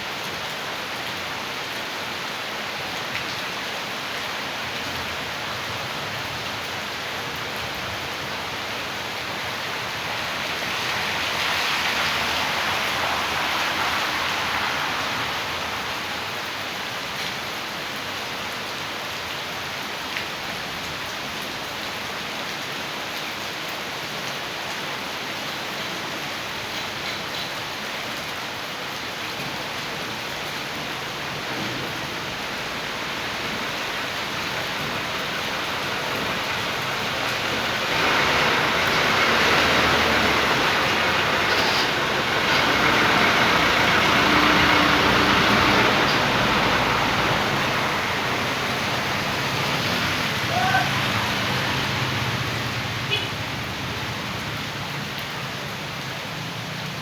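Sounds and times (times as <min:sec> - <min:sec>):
heavy rain: 0:00.0 - 0:57.0
rainwater runoff rushing: 0:00.0 - 0:57.0.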